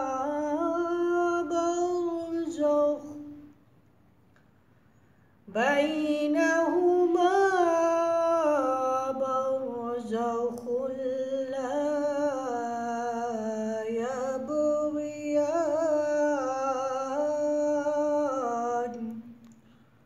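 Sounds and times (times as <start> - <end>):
man chanting recitation: 0.0 - 3.5, 5.5 - 19.4.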